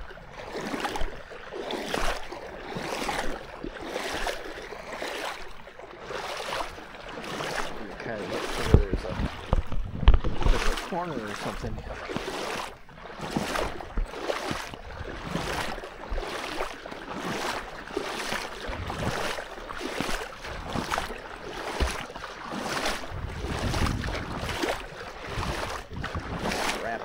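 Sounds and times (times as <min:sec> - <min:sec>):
footsteps wading through water: 0:00.0 - 0:27.0.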